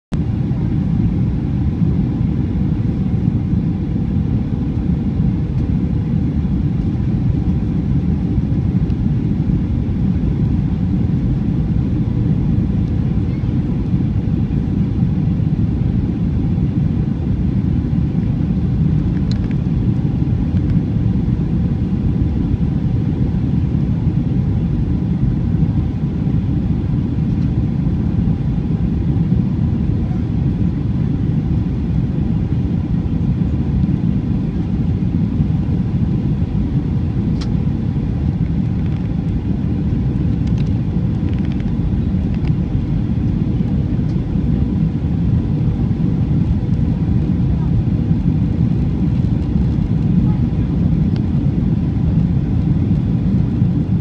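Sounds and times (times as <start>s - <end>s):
faint steady hum: 0.1s - 54.0s
jet engine roar in cabin: 0.1s - 54.0s.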